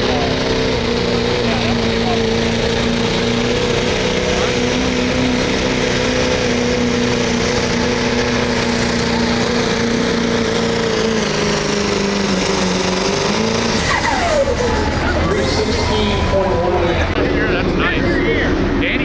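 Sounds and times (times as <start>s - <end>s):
truck engine revving high: 0.0s - 19.0s.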